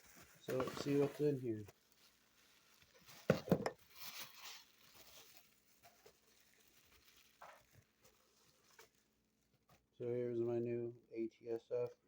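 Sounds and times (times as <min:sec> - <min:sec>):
packaging rustling: 0:00.0 - 0:09.7.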